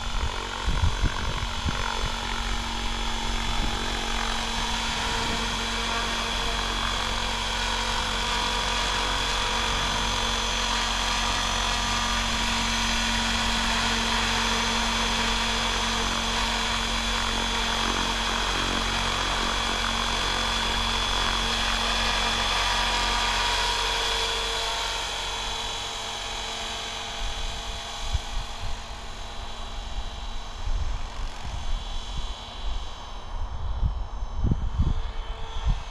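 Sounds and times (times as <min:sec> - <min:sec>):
rotor whirring: 0:00.0 - 0:33.8
rc helicopter motor whine: 0:00.0 - 0:35.9.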